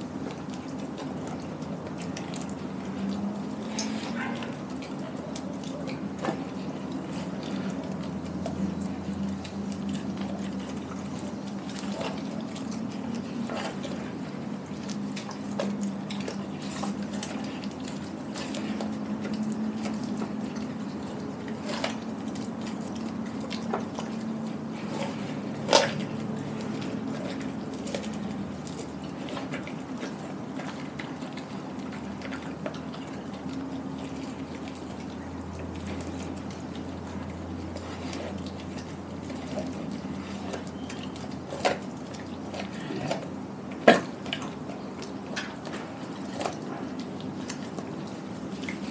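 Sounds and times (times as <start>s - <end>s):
dog chewing and licking: 0.0s - 48.9s.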